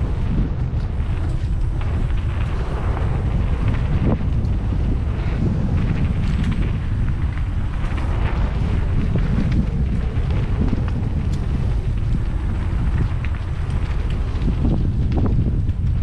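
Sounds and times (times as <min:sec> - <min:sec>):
bike clicks and rattles: 0:00.0 - 0:16.0
wind buffeting microphone: 0:00.0 - 0:16.0.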